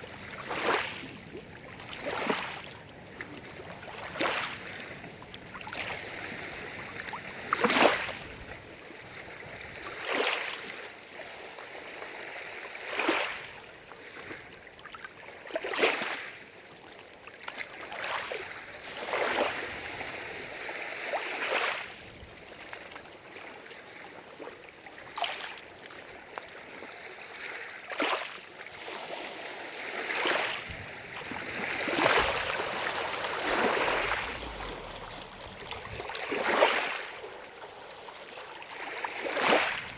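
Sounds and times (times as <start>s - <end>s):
steady wash of water: 0.0s - 14.4s, 17.7s - 23.9s, 24.9s - 39.9s
waves lapping against shore: 0.0s - 39.9s.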